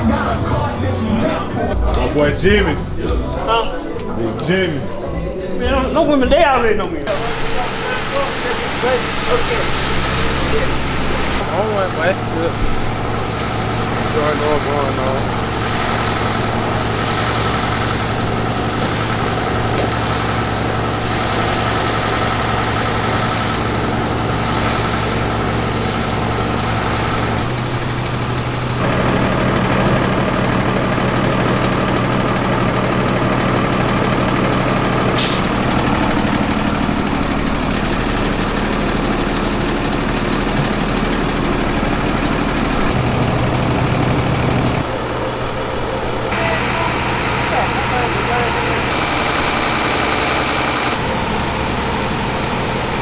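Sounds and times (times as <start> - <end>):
large engine idling: 7.1 - 53.0.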